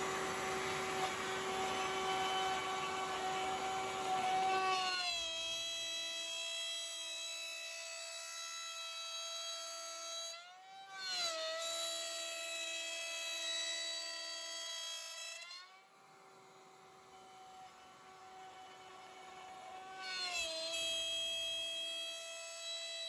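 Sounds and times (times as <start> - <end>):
wood router whining: 0.0 - 23.0.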